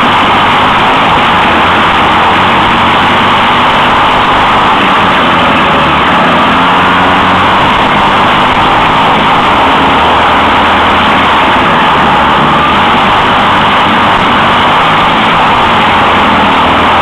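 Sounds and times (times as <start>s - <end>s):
kart engine running hard: 0.0s - 17.0s.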